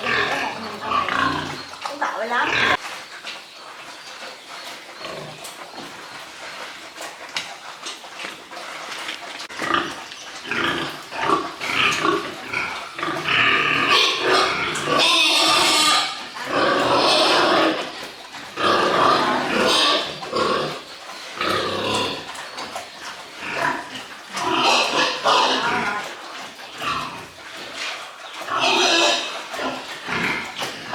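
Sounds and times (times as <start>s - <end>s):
pigs squealing: 0.0s - 2.9s, 3.8s - 30.9s.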